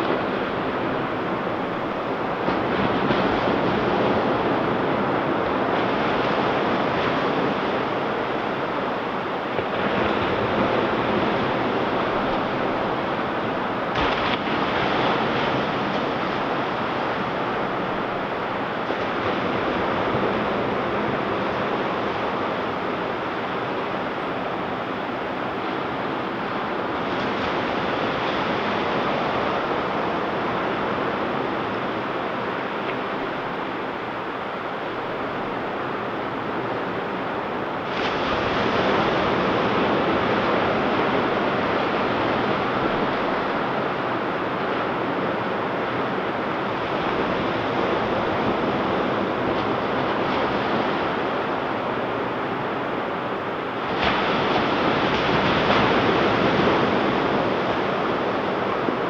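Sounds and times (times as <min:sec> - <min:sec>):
ocean surf washing: 0:00.0 - 0:59.0.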